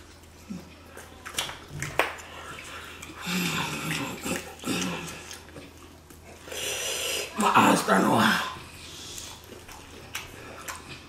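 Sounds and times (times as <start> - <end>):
wet chewing and mouth smacks: 0.0 - 7.3, 8.7 - 11.0.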